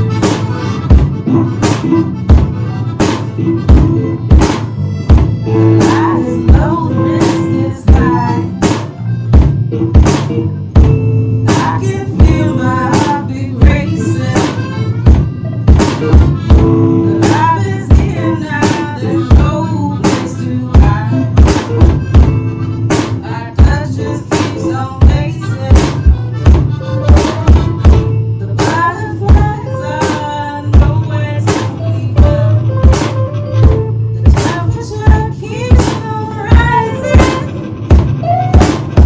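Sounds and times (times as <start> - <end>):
bass: 0.0 - 39.0
drum kit beat: 0.0 - 39.0
guitar: 0.0 - 39.0
reedy accordion: 0.0 - 39.0.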